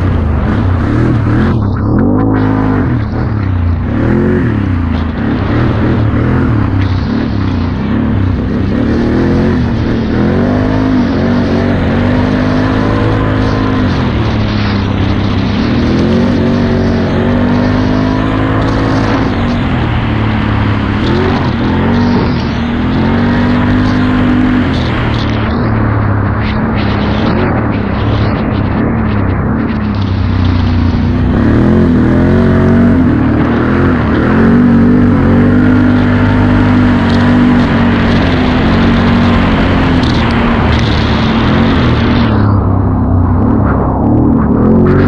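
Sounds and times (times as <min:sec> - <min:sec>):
atv engine under hard throttle: 0:00.0 - 0:45.0
wind rushing: 0:00.0 - 0:45.0.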